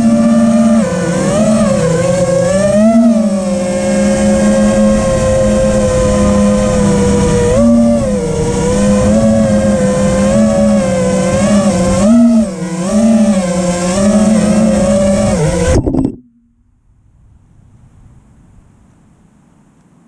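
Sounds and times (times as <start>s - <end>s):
quadcopter motors whining: 0.0s - 16.4s.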